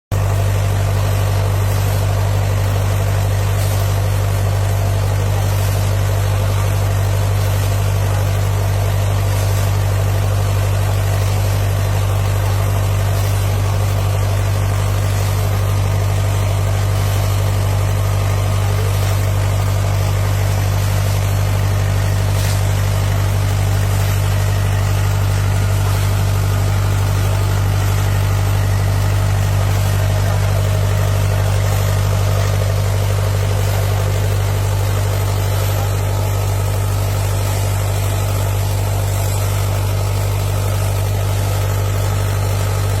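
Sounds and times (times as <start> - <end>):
water pump engine drone: 0.0 - 43.0
spraying water hiss: 1.7 - 43.0.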